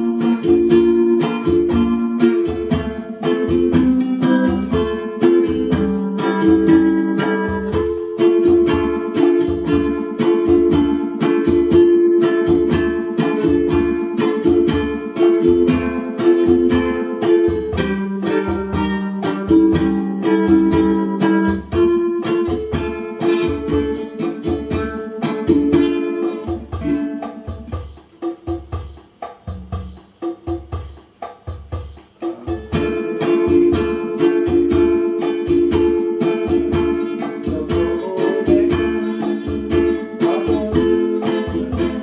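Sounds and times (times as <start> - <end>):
ukulele strumming: 0.0 - 42.0.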